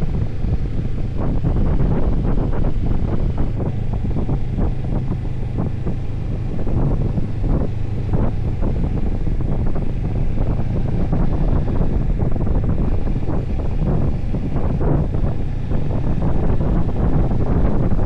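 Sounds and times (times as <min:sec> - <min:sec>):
motorcycle engine drone: 0:00.0 - 0:18.0
wind buffeting microphone: 0:00.0 - 0:18.0.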